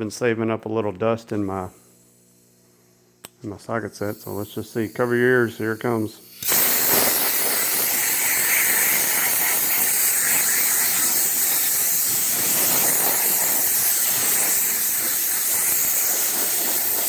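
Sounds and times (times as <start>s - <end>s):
air hose hissing: 1.6s - 17.0s.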